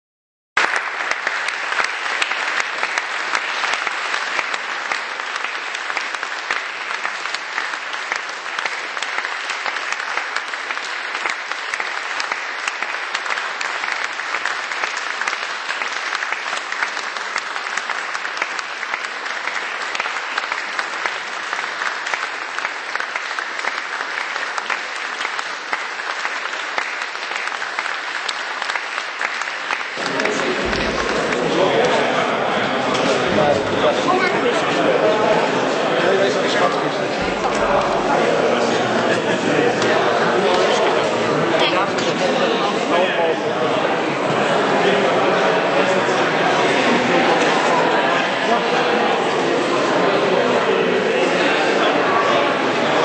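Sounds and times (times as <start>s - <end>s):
audience applauding: 0.6s - 53.0s.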